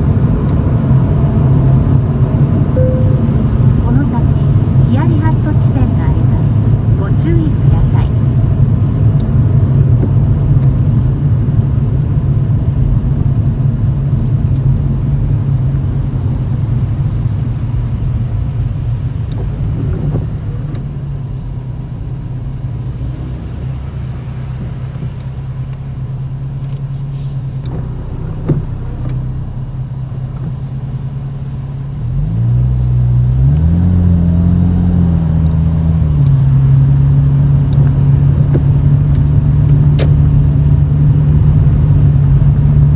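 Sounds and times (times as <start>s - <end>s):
car exhaust drone from inside cabin: 0.0s - 42.9s.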